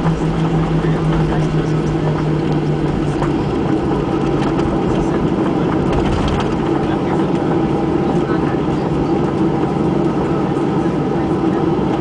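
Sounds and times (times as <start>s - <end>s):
jet engines roaring: 0.0s - 12.0s
low hum: 0.0s - 12.0s
low rumble of wheels on runway: 0.0s - 12.0s.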